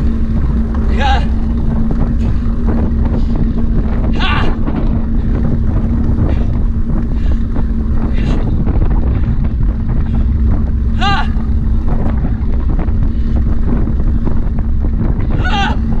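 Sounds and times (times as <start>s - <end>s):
steady low hum: 0.0s - 16.0s
wind rumbling on microphone: 0.0s - 16.0s.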